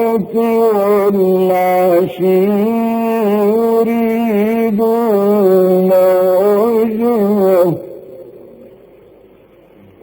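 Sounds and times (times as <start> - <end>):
man chanting melodically: 0.0 - 9.0.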